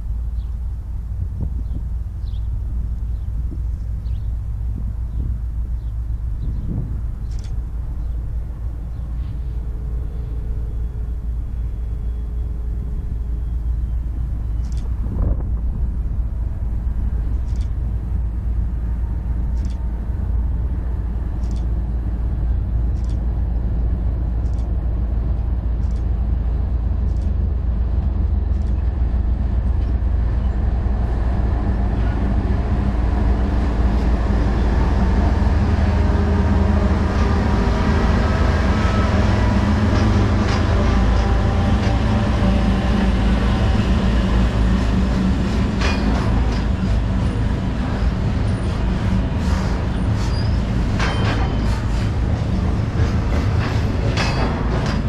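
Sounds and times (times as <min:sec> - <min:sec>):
diesel locomotive rumble: 0:00.0 - 0:55.0
train wheels on rails: 0:00.0 - 0:55.0.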